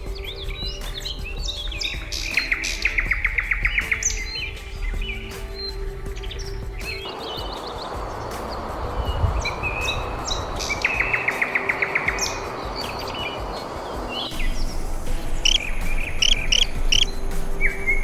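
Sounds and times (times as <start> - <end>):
songbirds chirping: 0.0 - 18.0
steady rushing hiss: 0.0 - 18.0.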